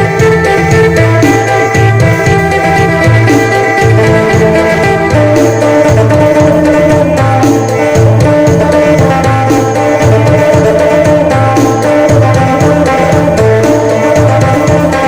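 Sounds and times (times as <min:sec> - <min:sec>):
drum and bass beat: 0:00.0 - 0:15.0
plucked lute: 0:00.0 - 0:15.0.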